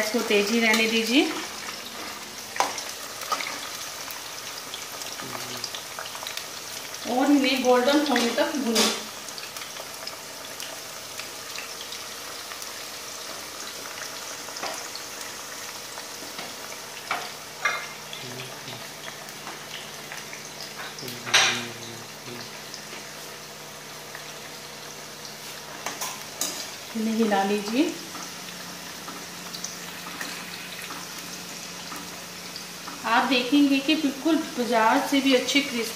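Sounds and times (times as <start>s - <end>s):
potatoes sizzling in hot oil: 0.0s - 35.9s.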